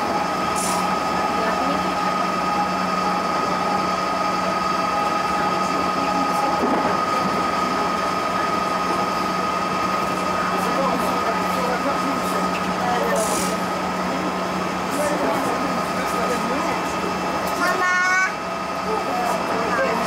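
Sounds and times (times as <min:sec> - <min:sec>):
electric train running: 0:00.0 - 0:20.0.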